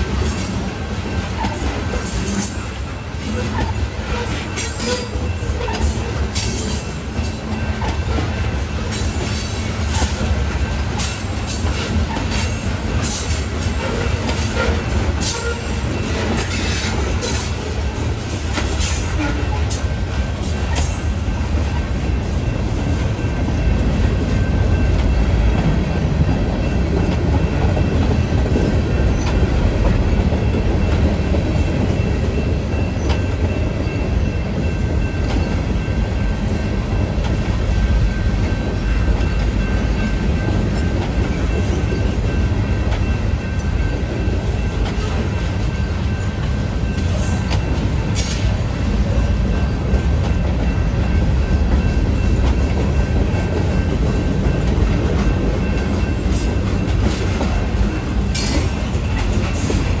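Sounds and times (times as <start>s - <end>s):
freight train rumbling past: 0.0s - 60.0s.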